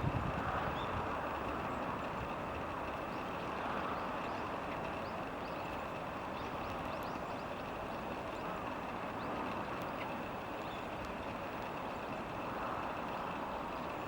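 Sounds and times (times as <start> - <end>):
sparrows chirping faintly: 0.4 - 14.0.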